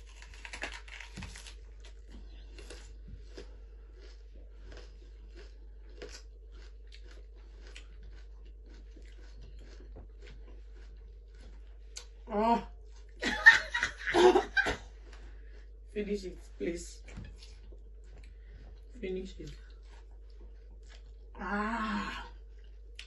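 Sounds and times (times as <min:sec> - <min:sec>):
onion crunching while chewed: 0:00.0 - 0:13.2, 0:14.6 - 0:16.0, 0:17.0 - 0:23.0.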